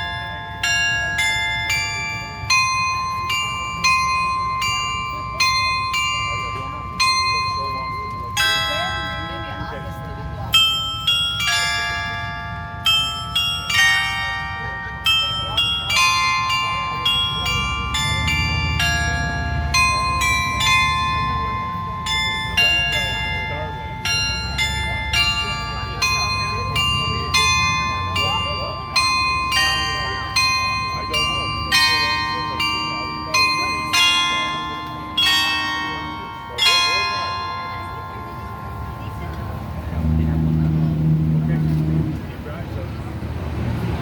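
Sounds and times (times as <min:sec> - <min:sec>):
carillon bells playing a tune: 0:00.0 - 0:44.0.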